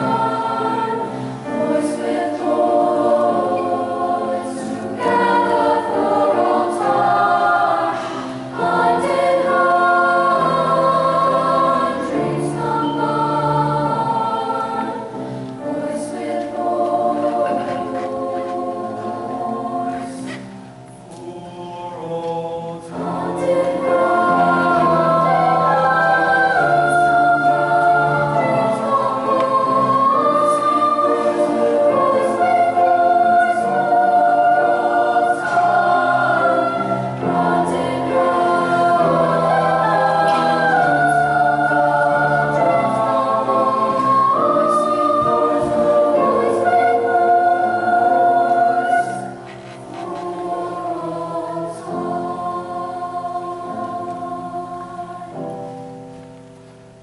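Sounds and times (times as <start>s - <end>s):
choir singing in parts: 0.0s - 56.7s.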